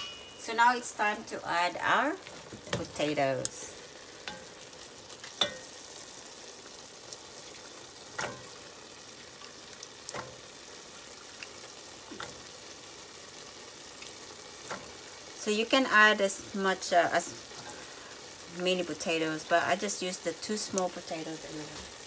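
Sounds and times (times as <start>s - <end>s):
chicken sizzling in a pot: 0.0s - 22.0s.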